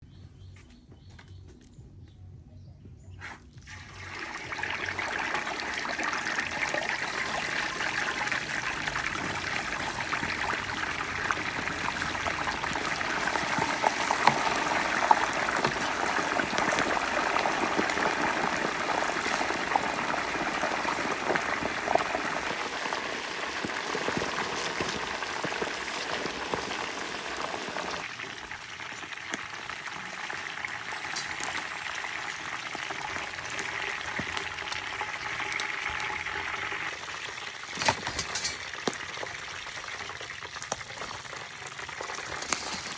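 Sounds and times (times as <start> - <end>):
water pouring with splashes: 3.6 - 42.9.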